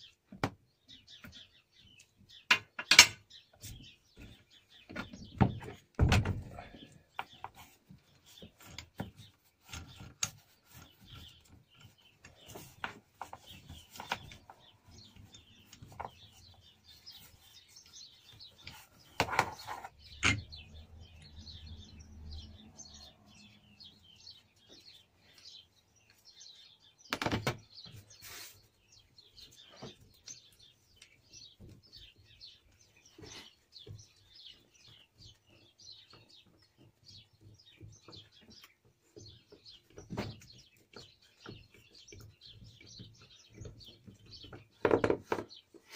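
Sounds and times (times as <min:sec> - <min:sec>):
faint bird chirping: 0:00.0 - 0:45.9.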